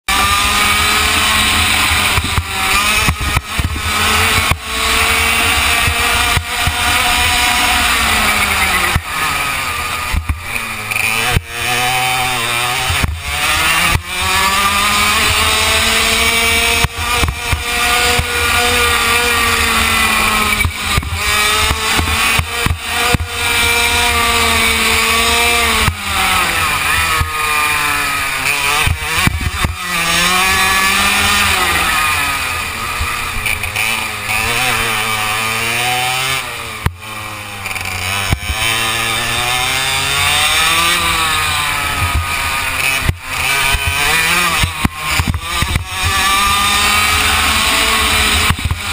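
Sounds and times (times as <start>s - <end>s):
go-kart engine running hard: 0.1s - 48.9s.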